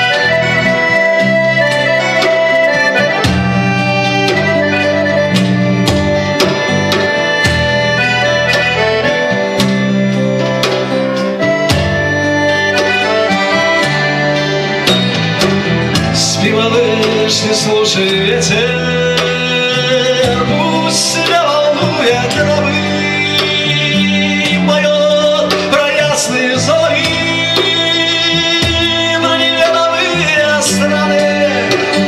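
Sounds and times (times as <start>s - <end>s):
accordion melody: 0.0s - 32.0s
bass line: 0.0s - 32.0s
strummed guitar: 0.0s - 32.0s.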